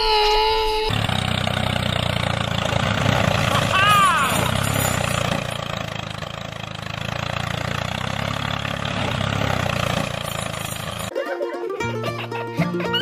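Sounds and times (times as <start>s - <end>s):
engine running at low speed: 0.1s - 11.1s.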